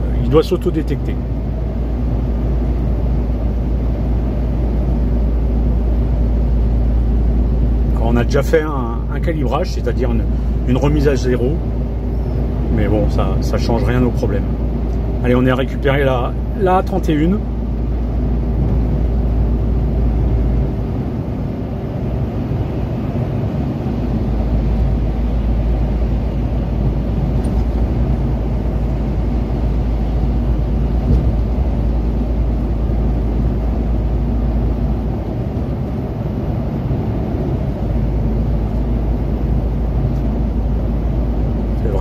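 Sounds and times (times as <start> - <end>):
lorry engine and tyre drone: 0.0 - 42.0.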